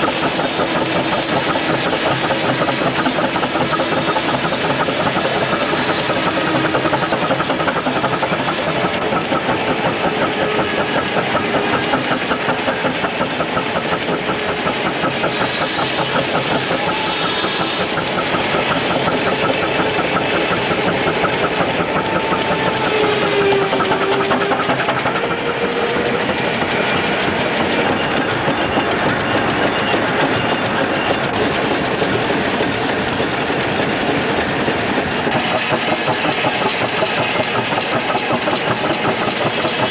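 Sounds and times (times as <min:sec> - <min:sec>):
machinery running fast beat: 0:00.0 - 0:39.9.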